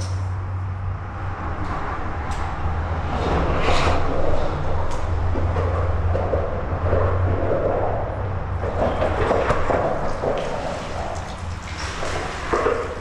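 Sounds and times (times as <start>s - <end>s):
traffic rumble on bridge overhead: 0.0s - 13.0s.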